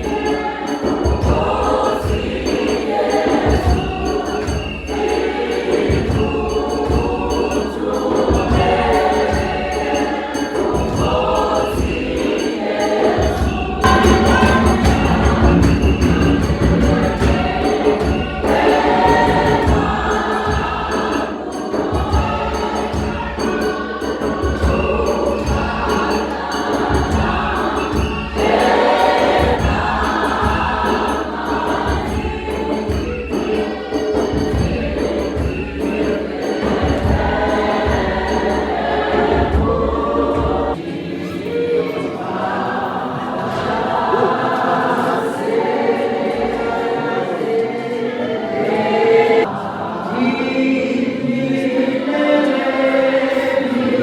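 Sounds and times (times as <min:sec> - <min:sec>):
choir singing gospel: 0:00.0 - 0:54.0.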